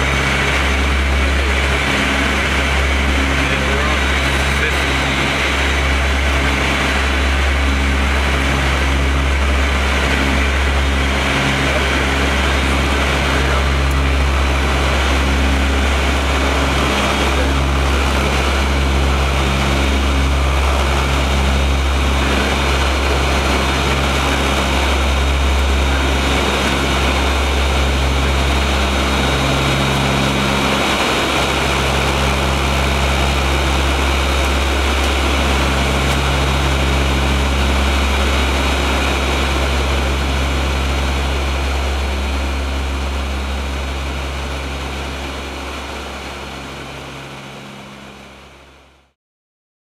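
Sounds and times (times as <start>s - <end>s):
deep propeller drone: 0.0s - 49.2s
high turbine whine: 0.0s - 49.2s.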